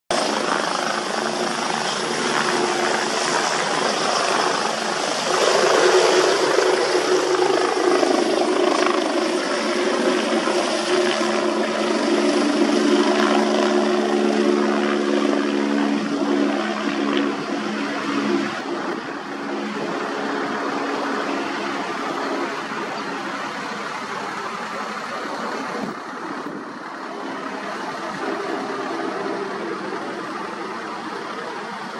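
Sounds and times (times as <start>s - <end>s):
helicopter rotor and turbine noise: 0.1s - 31.9s
turbine whine: 0.1s - 31.9s.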